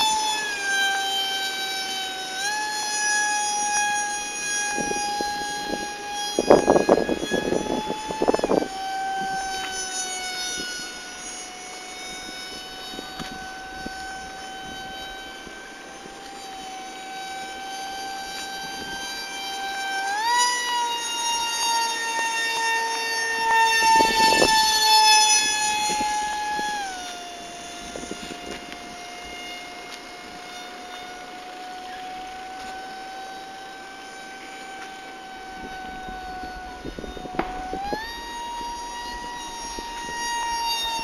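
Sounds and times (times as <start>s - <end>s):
electric motor whining: 0.0s - 41.0s.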